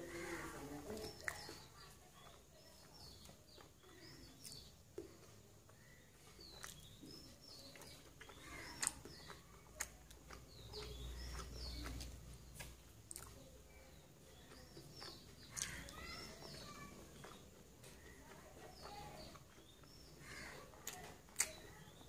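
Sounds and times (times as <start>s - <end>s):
eating by hand: 0.0s - 22.0s
small birds chirping: 0.0s - 22.0s.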